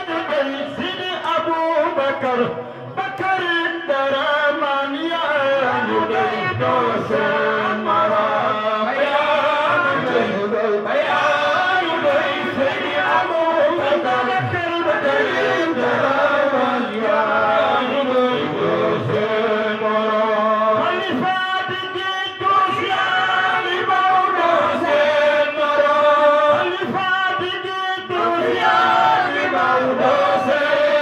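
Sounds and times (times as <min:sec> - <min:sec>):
lead voice on microphone: 0:00.0 - 0:31.0
men chanting in unison: 0:01.8 - 0:31.0.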